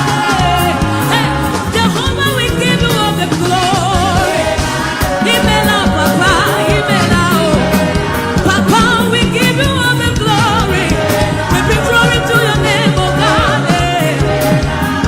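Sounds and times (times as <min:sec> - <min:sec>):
band with bass and drums: 0:00.0 - 0:15.0
voices singing with vibrato: 0:00.0 - 0:15.0.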